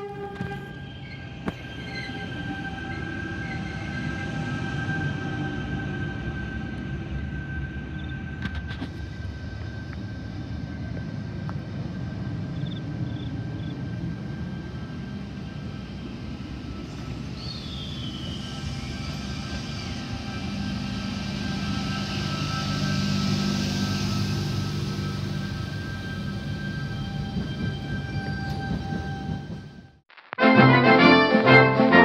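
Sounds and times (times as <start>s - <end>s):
faint train whine: 0.0s - 30.0s
train rolling past rumbling: 0.0s - 30.0s.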